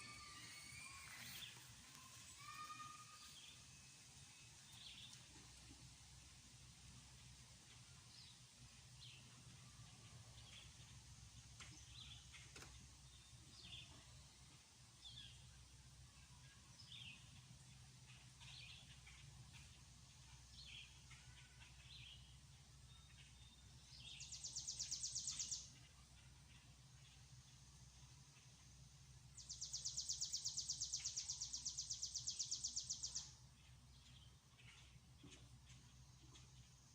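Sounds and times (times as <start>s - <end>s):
faint low hum: 0.0s - 36.9s
songbirds chirping: 0.0s - 36.9s.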